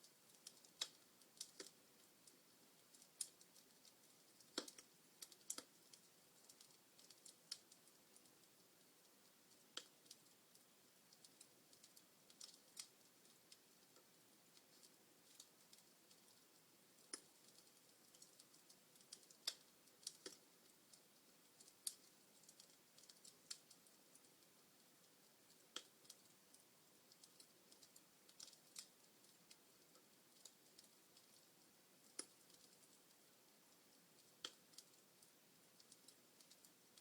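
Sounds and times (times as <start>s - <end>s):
wood fire crackling faintly: 0.0s - 37.0s.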